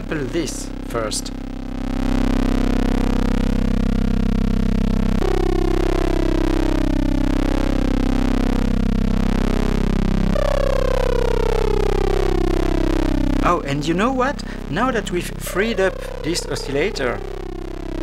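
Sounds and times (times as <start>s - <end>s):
buzzy synthesizer drone: 0.0s - 18.0s.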